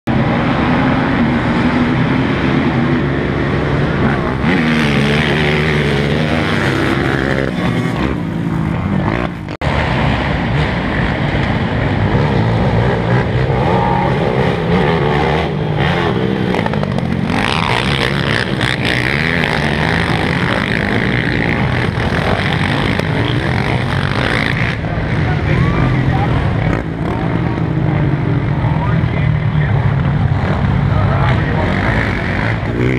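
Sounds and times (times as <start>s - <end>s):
racing quad engines revving: 0.1s - 32.9s.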